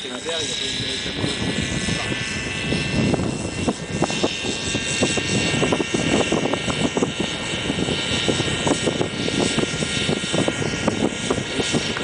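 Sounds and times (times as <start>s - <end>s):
rc helicopter high whine: 0.0s - 12.0s
rc helicopter low thumping: 0.0s - 12.0s.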